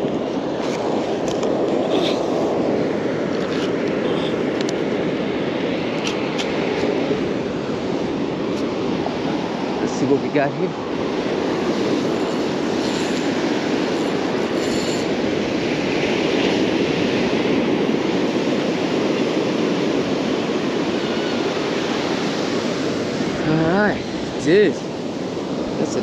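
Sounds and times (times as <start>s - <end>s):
surf breaking on beach: 0.0s - 26.0s.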